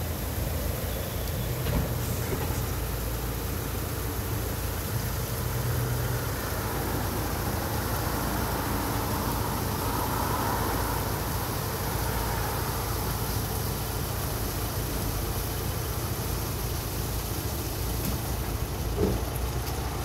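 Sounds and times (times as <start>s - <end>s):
car wash machine hum and rumble: 0.0s - 20.0s
hiss: 0.0s - 20.0s.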